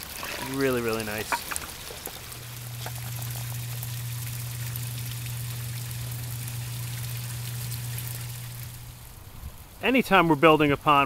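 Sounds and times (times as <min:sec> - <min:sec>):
steady low hum: 0:00.0 - 0:10.8
water trickling and splashing: 0:00.0 - 0:11.0.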